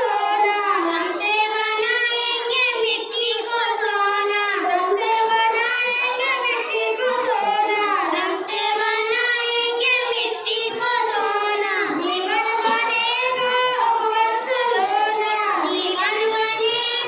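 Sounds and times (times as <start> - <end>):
girls singing together: 0.0 - 17.0.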